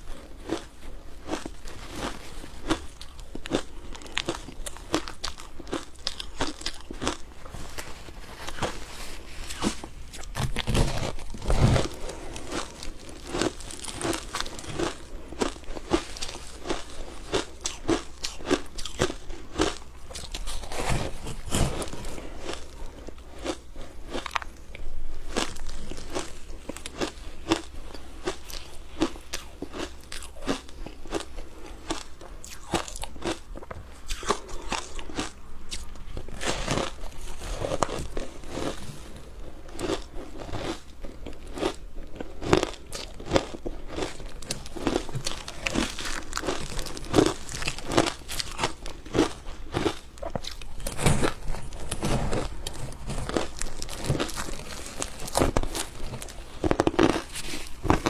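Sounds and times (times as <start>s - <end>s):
chewing ice: 0.0s - 58.0s.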